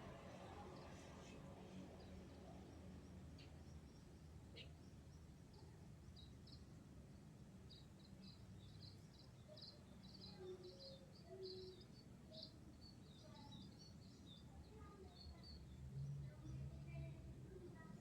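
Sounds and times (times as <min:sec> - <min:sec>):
small birds chirping: 0:00.5 - 0:17.2.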